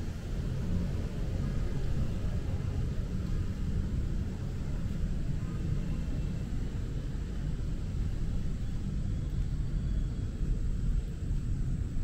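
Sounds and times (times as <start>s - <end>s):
rain low rumble: 0.0s - 12.0s.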